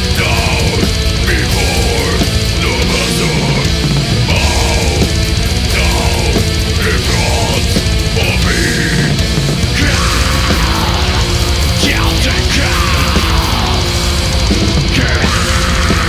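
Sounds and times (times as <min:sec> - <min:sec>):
death metal music: 0:00.0 - 0:16.0
distorted electric guitars: 0:00.0 - 0:16.0
drums: 0:00.0 - 0:16.0.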